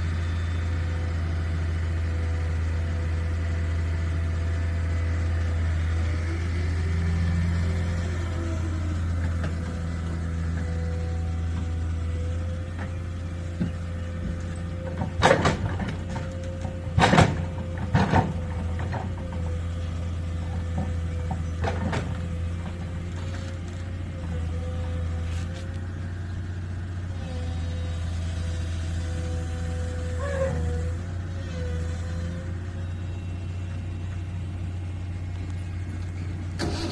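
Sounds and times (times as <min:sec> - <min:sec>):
excavator idling: 0:00.0 - 0:36.9
tractor idling: 0:00.0 - 0:36.9.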